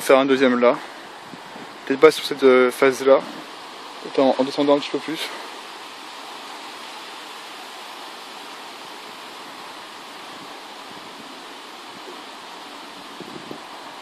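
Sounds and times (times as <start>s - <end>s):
water rushing down waterfall: 0.0s - 14.0s.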